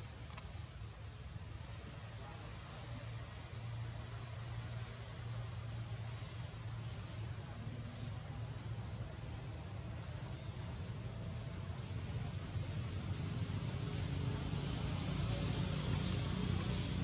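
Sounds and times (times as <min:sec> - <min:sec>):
insect chorus droning: 0:00.0 - 0:17.0.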